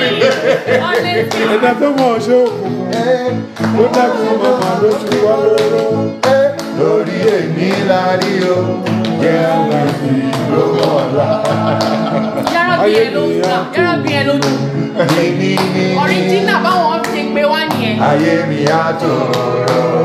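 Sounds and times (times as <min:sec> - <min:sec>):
guitar and drums: 0:00.0 - 0:20.0
person singing: 0:00.0 - 0:20.0.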